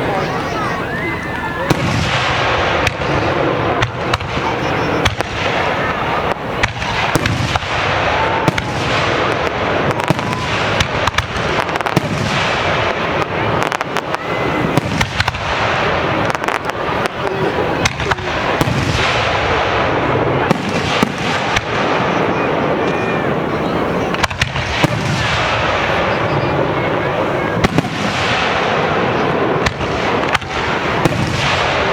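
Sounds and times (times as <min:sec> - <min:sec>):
fireworks crackling: 0:00.0 - 0:31.9.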